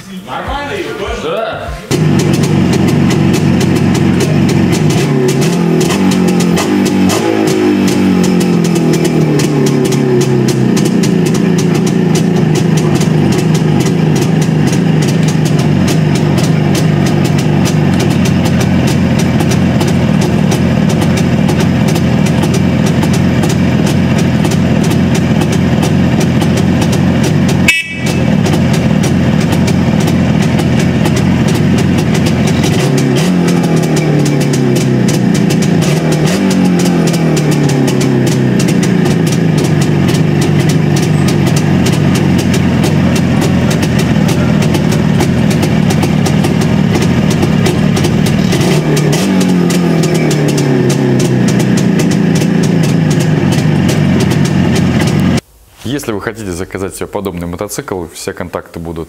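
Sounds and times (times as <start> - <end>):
motorcycle engine idling: 1.9 - 55.4
motorcycle kick-start: 1.9 - 55.4
two-stroke motorcycle engine revving: 1.9 - 55.4.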